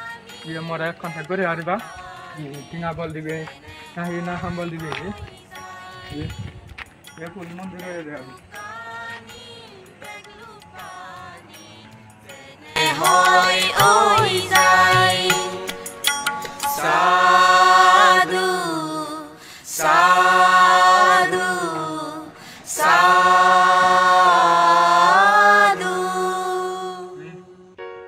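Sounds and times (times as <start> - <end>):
person singing devotional song: 0.0 - 27.9.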